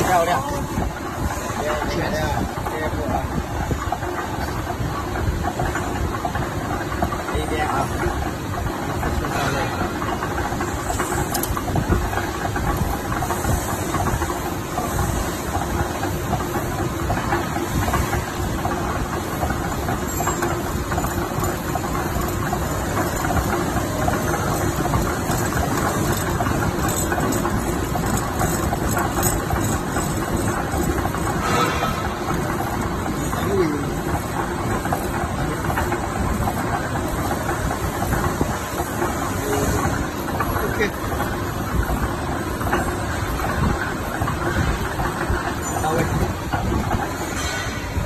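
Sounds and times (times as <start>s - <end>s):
machine running: 0.0s - 48.0s.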